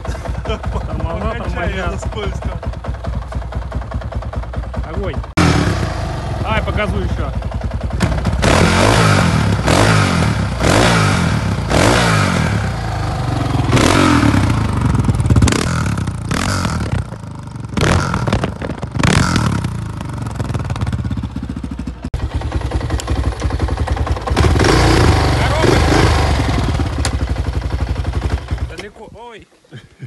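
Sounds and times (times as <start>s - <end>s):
motorcycle engine revving: 0.0s - 28.8s.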